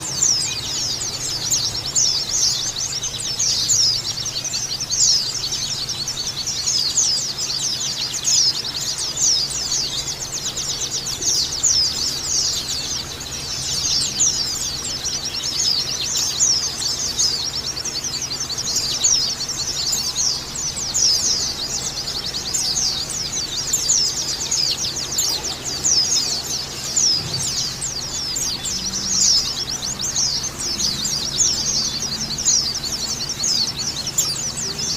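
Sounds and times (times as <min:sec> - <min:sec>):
birds twittering and trilling: 0:00.0 - 0:34.9.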